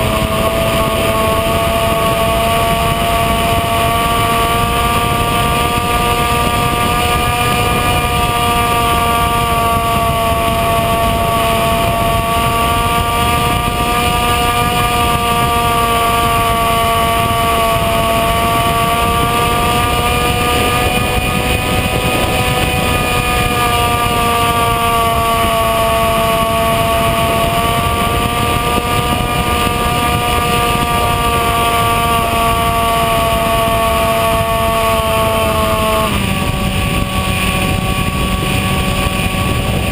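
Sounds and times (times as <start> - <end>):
electric motor whining: 0.0 - 39.9
wind rushing: 0.0 - 39.9.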